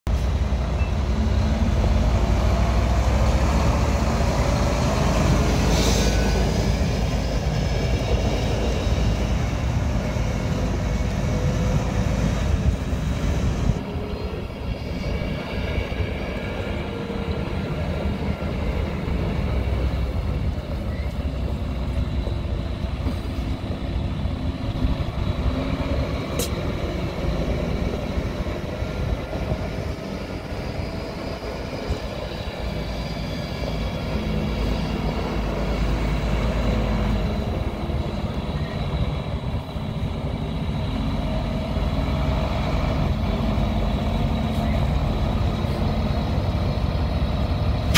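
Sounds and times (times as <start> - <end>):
diesel truck engine rumbling: 0.1 - 47.9.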